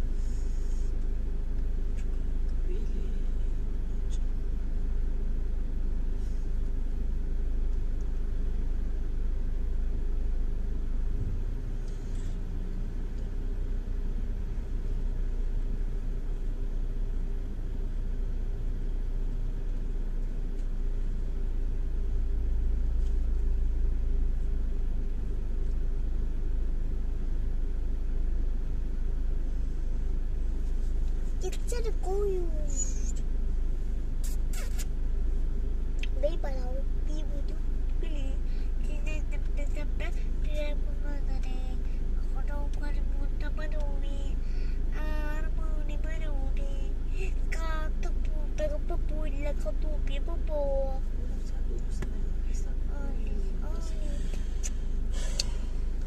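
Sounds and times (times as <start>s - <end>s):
car engine idling: 0.0s - 56.0s
road noise: 0.0s - 56.0s.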